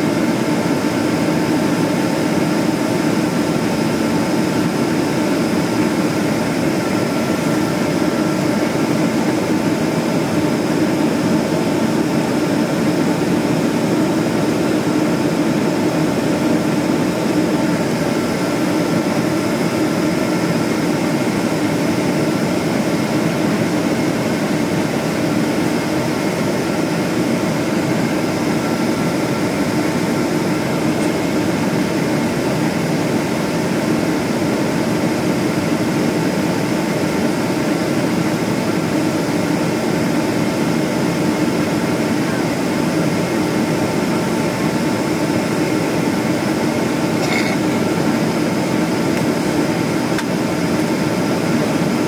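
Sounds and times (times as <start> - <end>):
jet engine cabin noise: 0.0 - 52.0.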